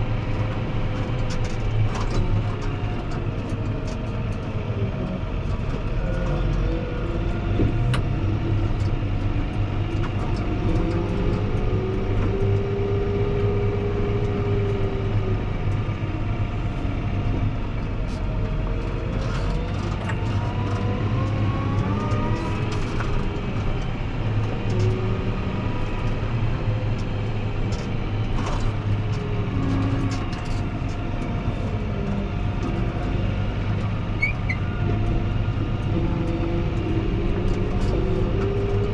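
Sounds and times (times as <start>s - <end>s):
tractor diesel engine under load: 0.0s - 38.9s
whining tones rising and falling: 3.2s - 38.9s.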